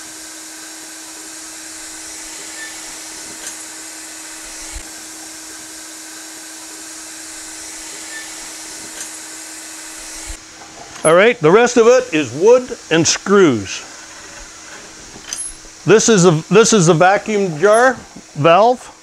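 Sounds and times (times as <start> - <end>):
shop vacuum running: 0.0 - 19.0.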